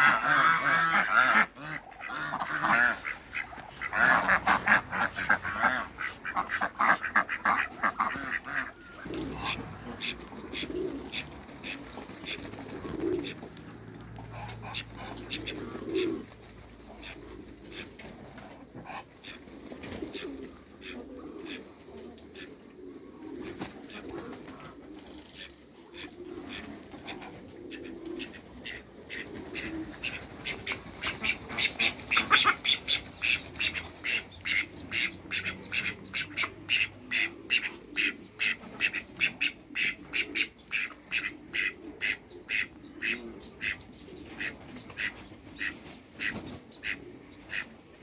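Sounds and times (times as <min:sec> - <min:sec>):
ducks quacking: 0:00.0 - 0:48.0.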